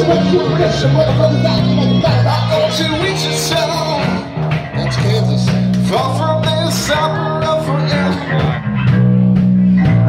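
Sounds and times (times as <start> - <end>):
person singing: 0.0 - 8.9
live band playing: 0.0 - 10.0.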